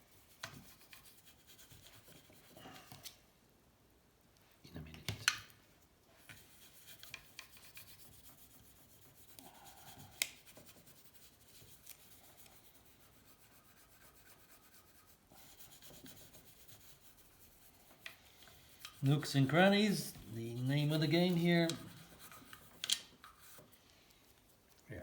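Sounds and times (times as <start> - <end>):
faint rubbing and handling: 0.0 - 3.3, 5.6 - 25.0.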